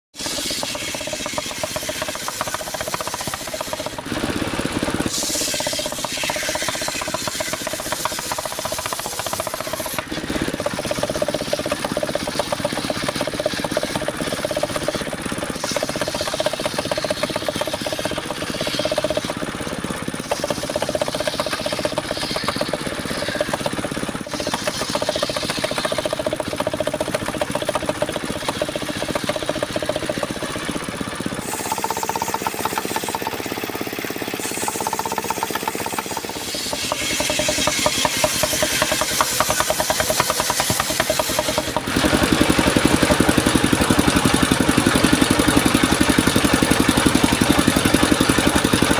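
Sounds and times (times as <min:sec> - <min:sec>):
sawmill engine chugging: 0:00.1 - 0:48.9
circular saw blade humming: 0:00.2 - 0:48.0.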